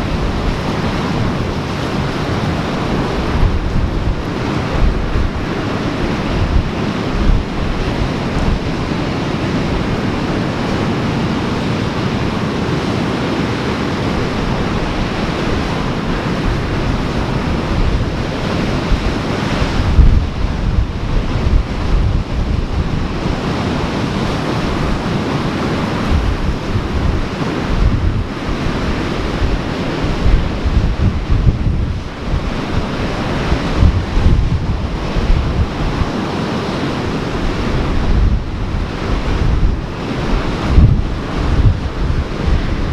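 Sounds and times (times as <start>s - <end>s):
surf washing: 0.0s - 42.9s
wind buffeting microphone: 0.0s - 42.9s.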